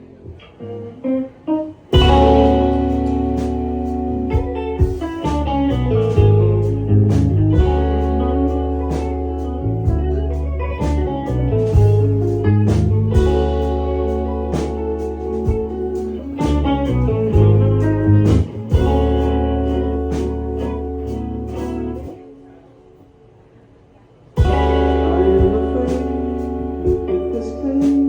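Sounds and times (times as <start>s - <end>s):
single guitar notes: 0.0s - 23.0s, 24.4s - 28.0s
rock band playing: 0.4s - 22.4s, 24.4s - 28.0s.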